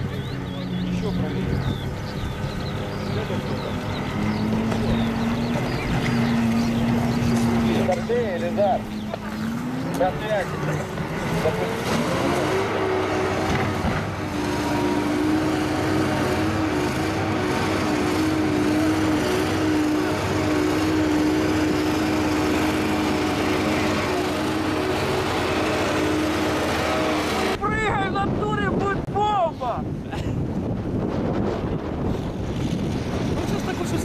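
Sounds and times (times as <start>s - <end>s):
vehicle engine running: 0.0s - 27.6s.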